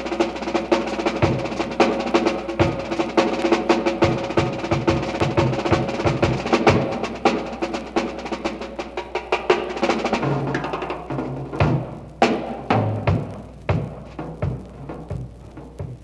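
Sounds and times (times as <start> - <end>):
drum and block strokes: 0.0 - 16.0.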